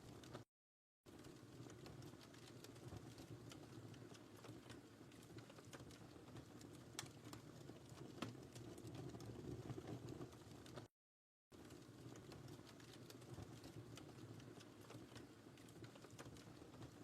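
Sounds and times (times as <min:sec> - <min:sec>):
wood fire crackling: 0:00.0 - 0:00.4, 0:01.1 - 0:10.9, 0:11.5 - 0:17.0
low rumble of flames: 0:01.1 - 0:10.9, 0:11.6 - 0:17.0.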